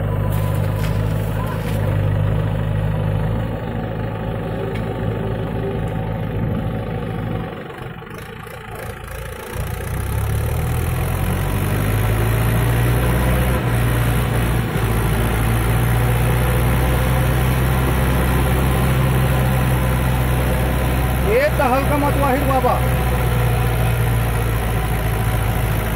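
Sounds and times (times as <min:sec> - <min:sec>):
tractor diesel engine: 0:00.0 - 0:25.9.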